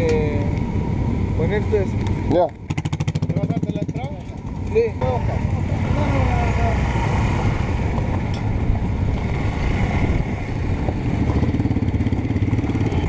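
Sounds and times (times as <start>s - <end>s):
motorcycle engine running: 1.4s - 6.9s, 7.6s - 13.0s.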